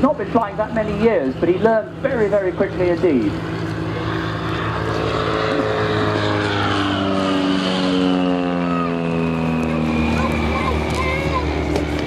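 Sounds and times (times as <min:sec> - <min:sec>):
propeller plane passing overhead: 0:00.0 - 0:12.0.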